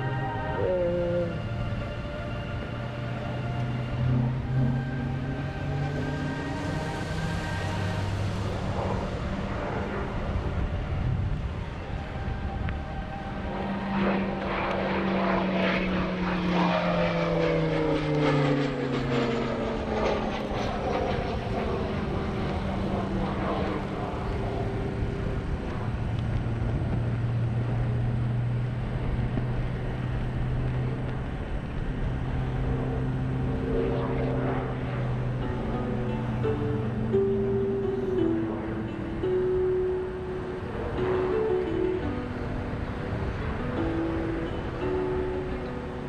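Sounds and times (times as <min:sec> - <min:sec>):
propeller plane droning overhead: 0:00.0 - 0:46.0.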